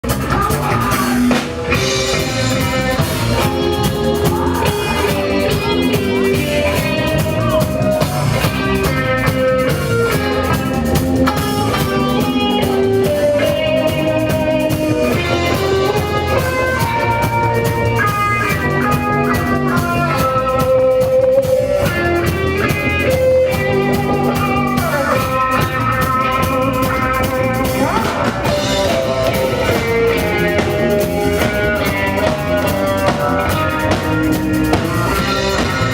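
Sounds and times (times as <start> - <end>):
bass guitar: 0.0 - 35.9
drum kit: 0.0 - 35.9
guitar melody: 0.0 - 35.9.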